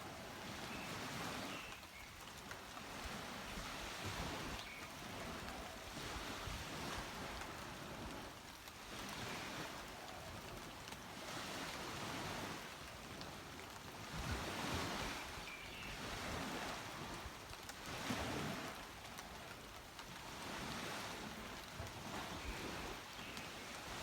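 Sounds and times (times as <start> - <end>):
small waves breaking on a beach: 0.0 - 24.0.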